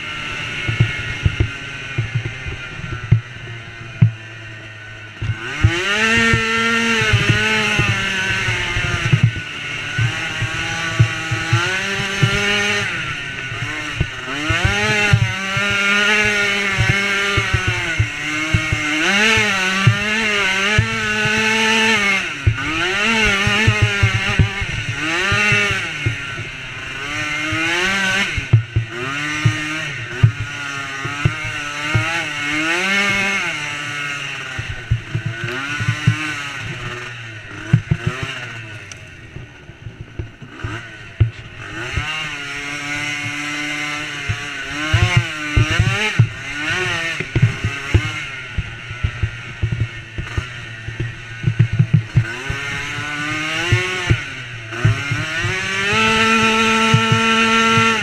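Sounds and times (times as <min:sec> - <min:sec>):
quad engine revving: 0:00.0 - 0:58.0
sharp clattering knocks: 0:00.6 - 0:04.3, 0:05.2 - 0:58.0.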